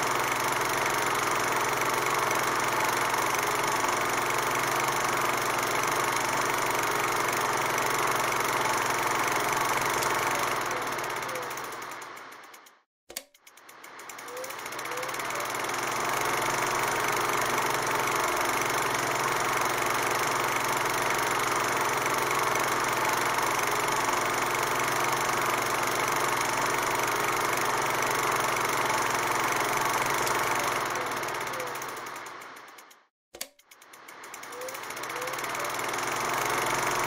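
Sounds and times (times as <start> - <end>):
mechanical running noise: 0.0 - 37.0.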